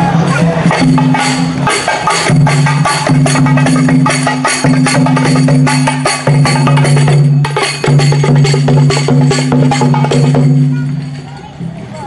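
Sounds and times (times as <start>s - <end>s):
percussion music: 0.0s - 12.0s
wooden-sounding strikes: 0.3s - 11.3s.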